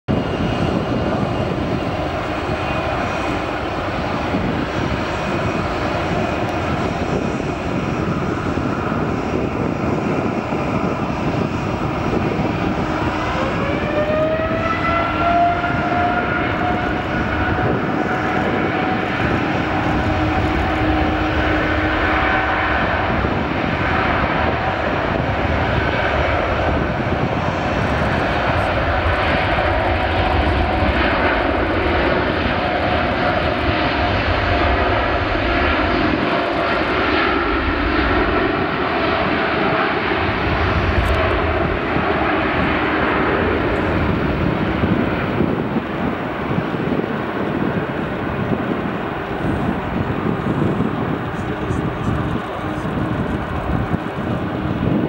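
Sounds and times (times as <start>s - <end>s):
jet engine whine: 0.0s - 55.0s
jet engines roaring: 0.1s - 55.0s.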